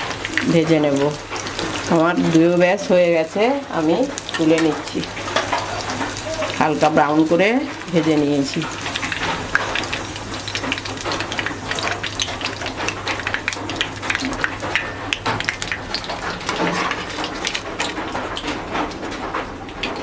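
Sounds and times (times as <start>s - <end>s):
hot oil sizzling in a wok: 0.0s - 19.0s.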